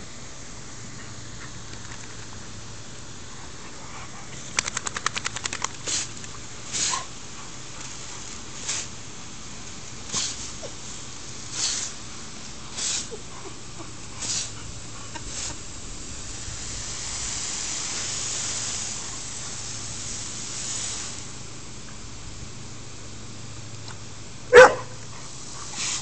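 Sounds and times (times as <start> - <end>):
lawn sprinkler spraying hiss: 0.0 - 26.0.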